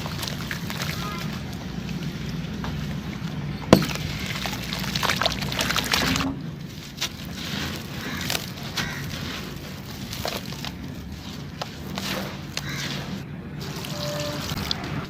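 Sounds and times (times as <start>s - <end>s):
crumbling grit: 0.0s - 15.0s
dry chunks being crushed: 0.0s - 15.0s.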